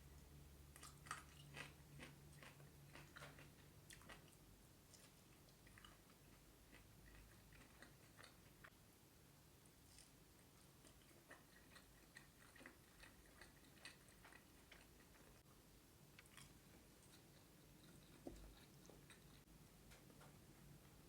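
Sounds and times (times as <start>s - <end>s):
person chewing food: 0.7s - 8.8s, 9.8s - 15.5s, 16.1s - 19.5s.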